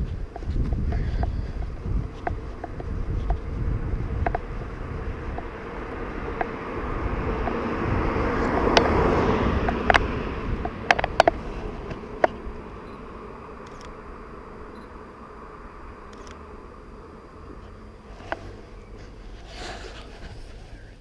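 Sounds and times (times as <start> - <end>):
low rumble: 0.0 - 21.0
car driving past: 1.6 - 20.8.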